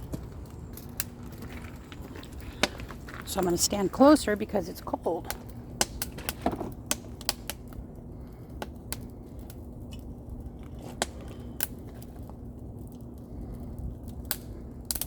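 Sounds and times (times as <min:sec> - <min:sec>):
campfire crackling: 0:00.0 - 0:15.0
fire pops and snaps: 0:00.0 - 0:15.0
low steady hum: 0:00.0 - 0:15.0.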